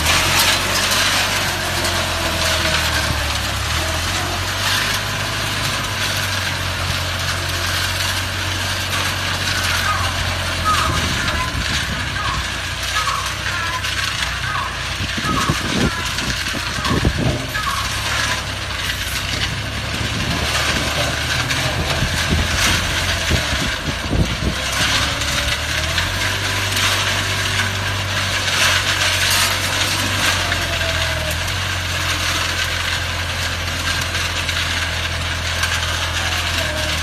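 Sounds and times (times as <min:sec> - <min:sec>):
continuous rattle and clatter: 0:00.0 - 0:37.0
diesel engine running: 0:00.0 - 0:37.0.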